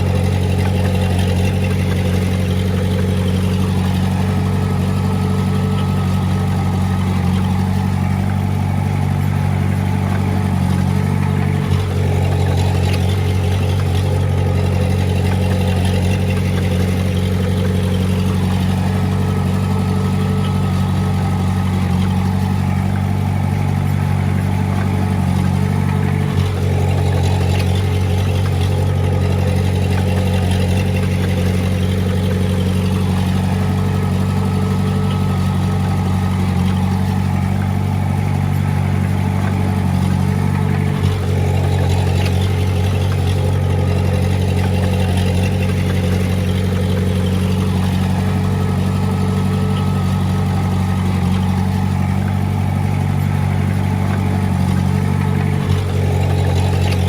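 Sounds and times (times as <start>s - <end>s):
diesel engine running steadily: 0.0s - 57.0s.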